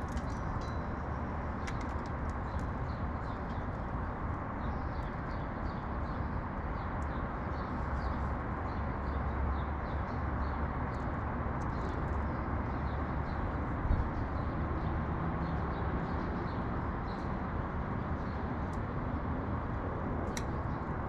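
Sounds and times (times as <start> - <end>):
city traffic rumble: 0.0 - 21.0
sparrows chirping: 0.0 - 21.0.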